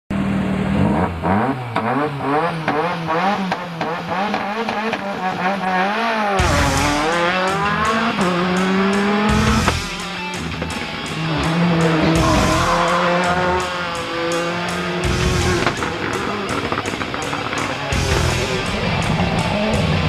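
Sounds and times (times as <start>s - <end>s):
car engine accelerating hard: 0.1s - 20.0s
rally car engine revving: 0.1s - 20.0s.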